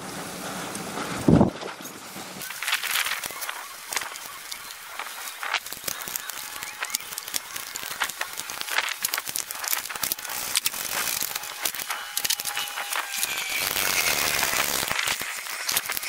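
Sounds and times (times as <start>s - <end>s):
rustling: 1.0s - 16.0s.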